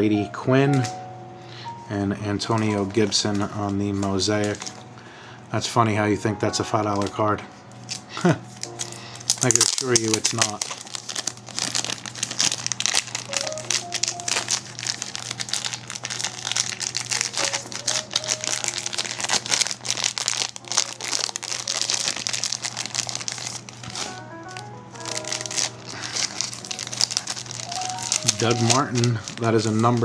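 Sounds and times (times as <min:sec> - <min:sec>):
background music of held notes: 0:00.0 - 0:30.0
plastic sleeves crinkling: 0:02.4 - 0:04.8, 0:07.8 - 0:30.0.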